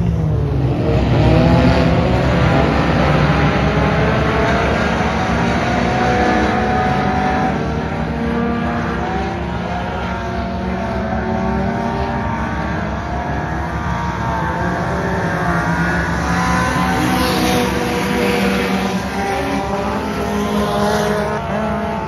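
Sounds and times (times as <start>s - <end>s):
race car engines droning: 0.0s - 22.0s
race car passing close: 0.0s - 22.0s.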